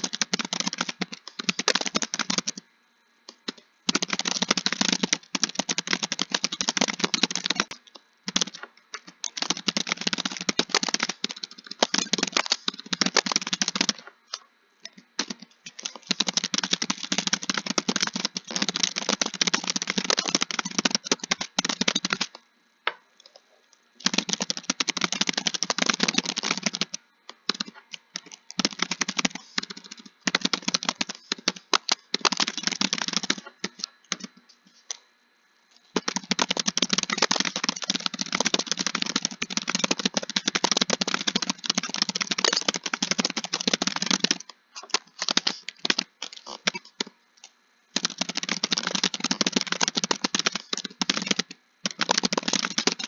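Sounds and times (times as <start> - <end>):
fast typing on keyboard: 0.0 - 2.6, 3.4 - 14.1, 15.2 - 22.4, 24.0 - 34.4, 35.9 - 47.1, 47.9 - 53.0.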